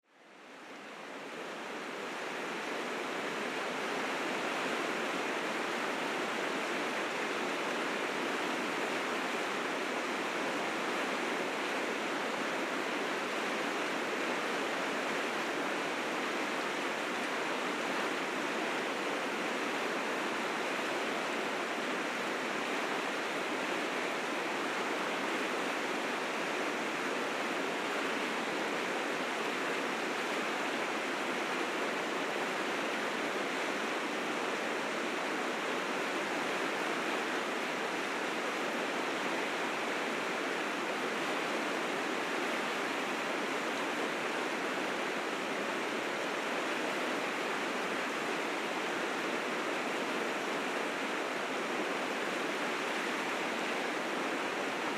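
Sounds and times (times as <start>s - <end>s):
river rapids rushing: 0.3s - 54.9s.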